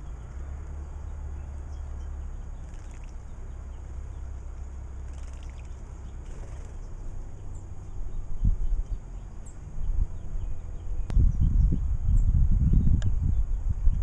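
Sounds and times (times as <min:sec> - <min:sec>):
birds chirping: 0:00.0 - 0:14.0
low rumble of wind gusts: 0:00.0 - 0:14.0.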